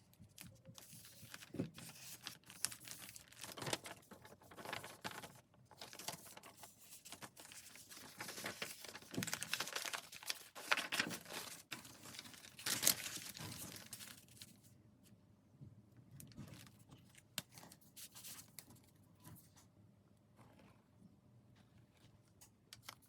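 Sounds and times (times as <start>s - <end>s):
paper crinkling and rustling: 0.0s - 14.8s, 16.2s - 19.7s, 21.9s - 23.0s.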